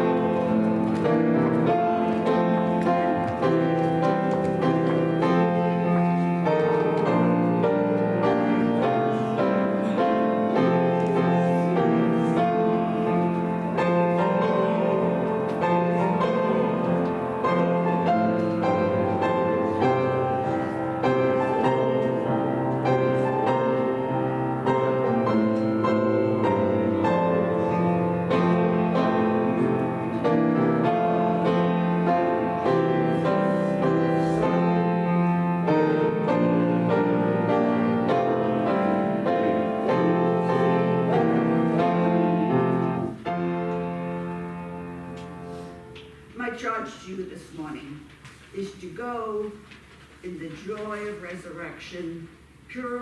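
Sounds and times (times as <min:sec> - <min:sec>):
slow piano piece: 0:00.0 - 0:46.6.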